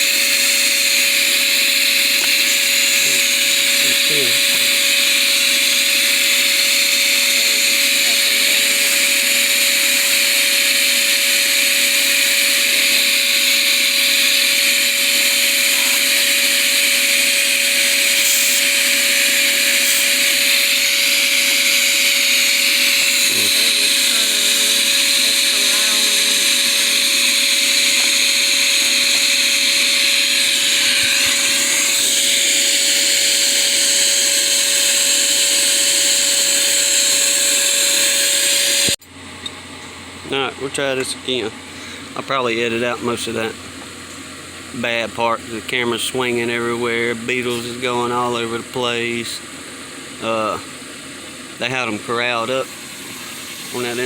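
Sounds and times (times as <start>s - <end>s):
small vacuum whining: 0.0s - 54.0s.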